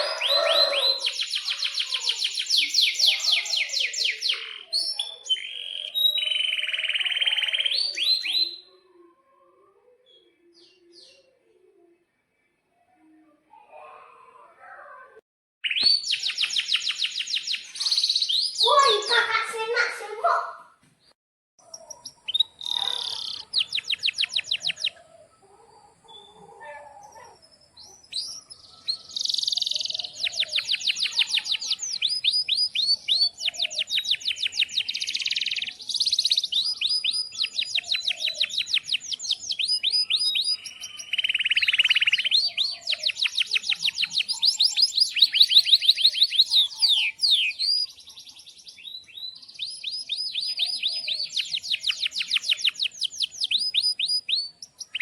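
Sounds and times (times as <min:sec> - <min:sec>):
canary singing: 0:00.0 - 0:11.4, 0:15.6 - 0:19.8, 0:21.6 - 0:55.0.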